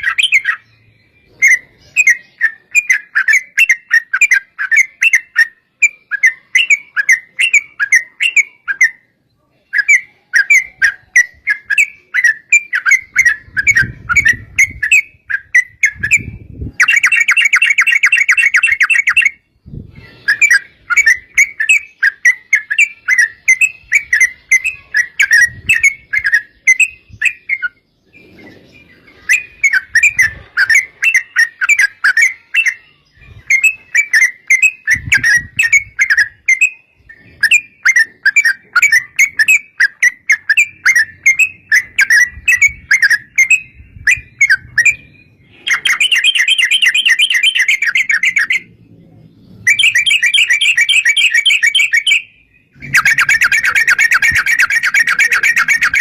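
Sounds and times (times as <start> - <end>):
bird chattering song: 0.0 - 56.0
fast continuous bird trill: 0.0 - 56.0.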